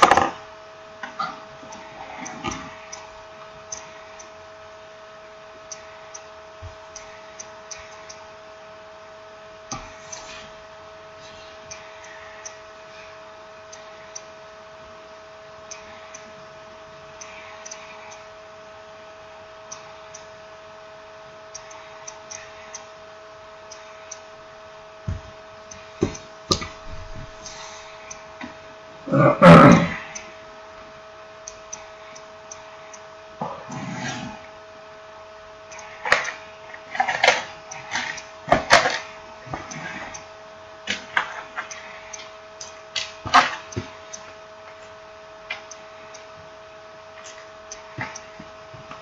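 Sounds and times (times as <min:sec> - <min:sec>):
steady electrical hum: 0:00.0 - 0:49.0.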